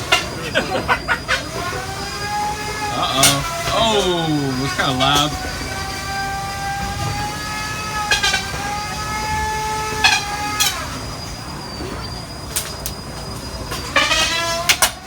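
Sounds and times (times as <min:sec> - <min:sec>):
spinning robot weapon whining: 0:00.0 - 0:15.0.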